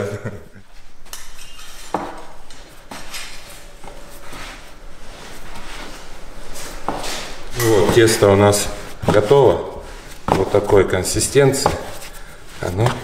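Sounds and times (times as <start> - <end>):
dough kneaded on wooden board: 1.9 - 13.0.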